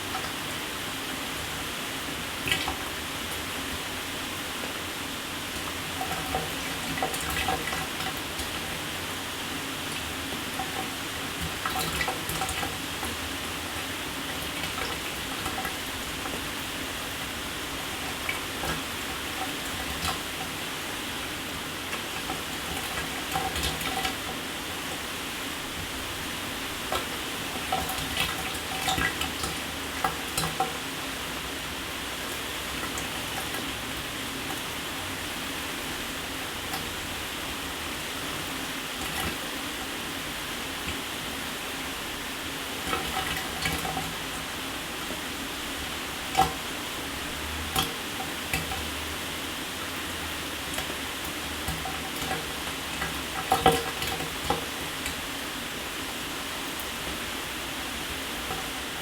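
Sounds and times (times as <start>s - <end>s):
water taps and splashes: 0.0s - 4.0s, 5.5s - 59.0s.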